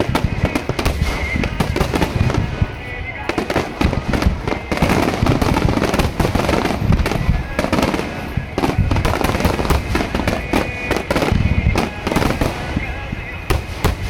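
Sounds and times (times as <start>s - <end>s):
fireworks bursts and crackling: 0.0s - 14.0s.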